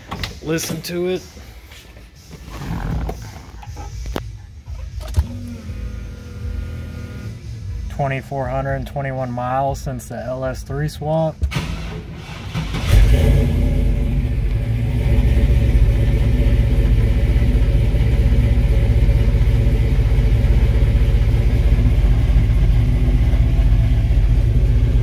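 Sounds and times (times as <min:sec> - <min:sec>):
car engine starting and idling: 0:02.2 - 0:25.0.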